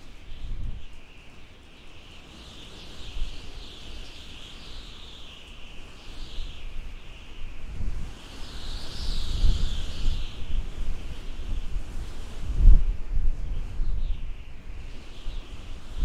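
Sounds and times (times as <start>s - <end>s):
howling wind: 0.0s - 16.0s.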